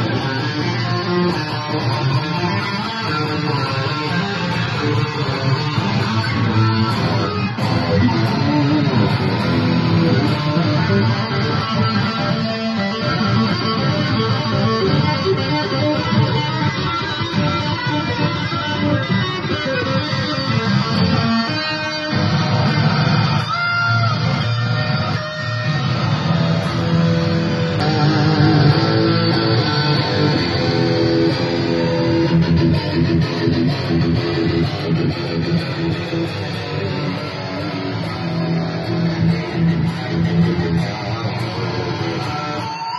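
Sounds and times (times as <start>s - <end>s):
electric guitar fast passage: 0.0s - 42.9s.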